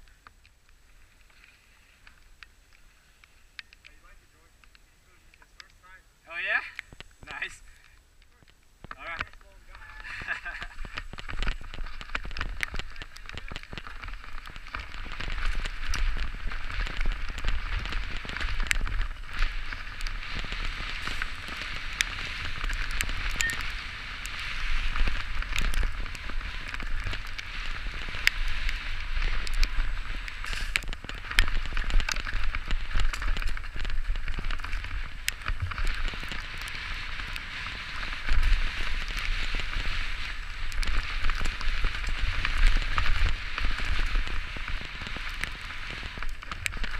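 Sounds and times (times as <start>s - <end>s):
bike tyres on wet gravel: 0.0s - 46.9s
bike clicks and knocks: 8.3s - 46.9s
wind rumble on microphone: 8.4s - 46.9s.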